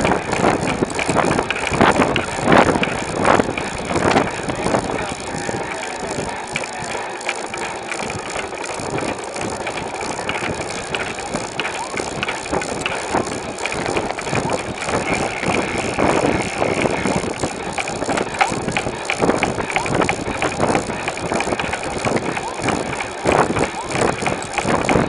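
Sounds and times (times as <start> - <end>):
bicycle tyre and wind noise: 0.0 - 25.0
bike rattles and clicks: 0.0 - 25.0.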